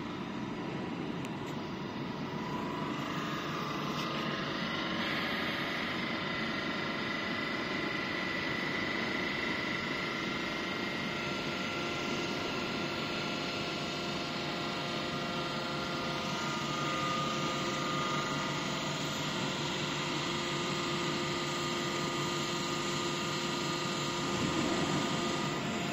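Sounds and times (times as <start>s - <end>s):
hydraulic power unit humming: 0.0s - 25.9s.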